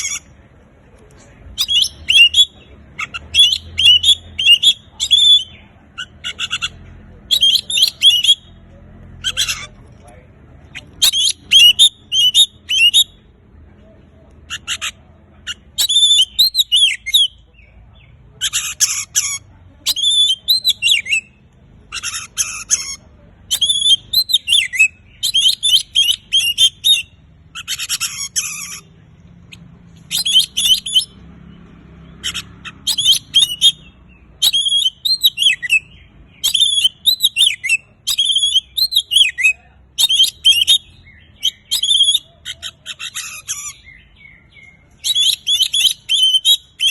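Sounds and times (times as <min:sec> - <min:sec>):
bird singing: 0:01.3 - 0:46.9.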